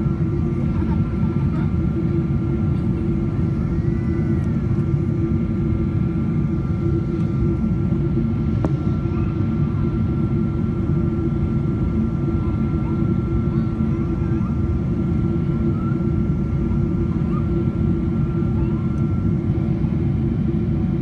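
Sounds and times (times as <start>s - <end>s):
jet engine roar in cabin: 0.0s - 21.0s.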